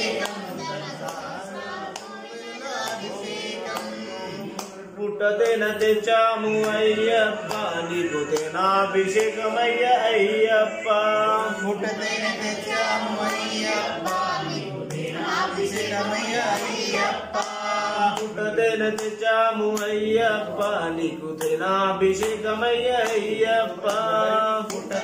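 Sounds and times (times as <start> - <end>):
voices singing devotional chant: 0.0 - 25.0.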